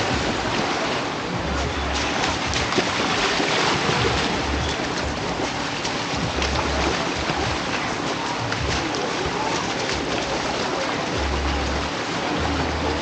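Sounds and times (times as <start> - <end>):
water at shoreline: 0.0 - 13.0
wind: 0.0 - 13.0.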